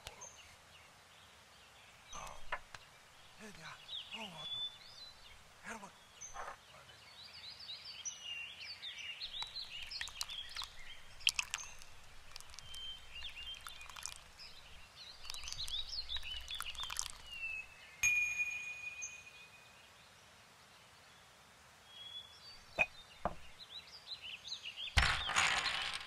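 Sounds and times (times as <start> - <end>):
small birds chirping: 0.0 - 25.5.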